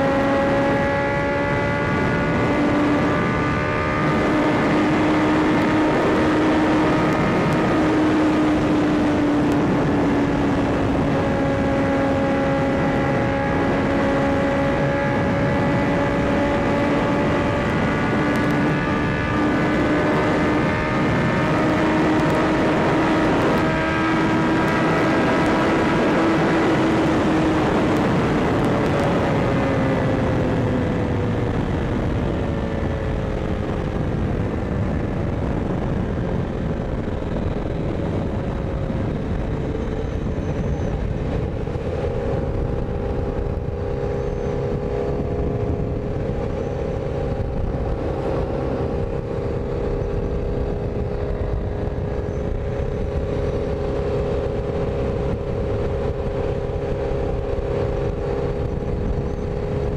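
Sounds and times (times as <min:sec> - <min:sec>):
motorcycle engine cruising: 0:00.0 - 0:59.9
wind rush on microphone: 0:00.0 - 0:59.9.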